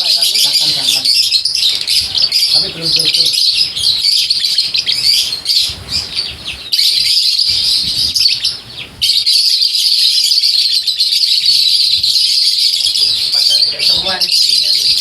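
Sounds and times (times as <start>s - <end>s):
lovebirds chattering and chirping: 0.0s - 15.0s.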